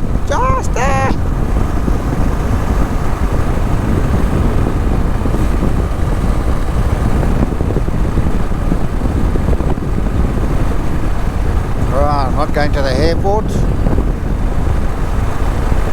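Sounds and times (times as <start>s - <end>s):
motorcycle engine at speed: 0.0s - 15.9s
wind rushing: 0.0s - 15.9s.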